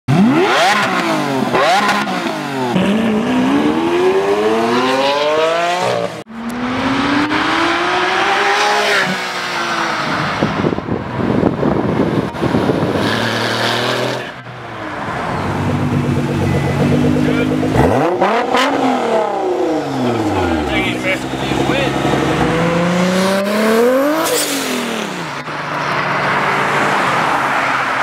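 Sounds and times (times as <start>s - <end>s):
sports car engines accelerating: 0.1s - 28.0s.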